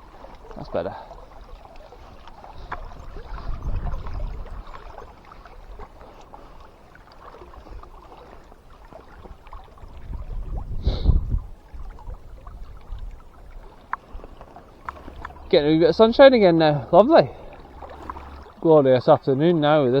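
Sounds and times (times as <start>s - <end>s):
wind rumbling on microphone: 0.0s - 6.0s, 9.1s - 20.0s
river water flowing: 0.0s - 10.5s, 11.5s - 20.0s.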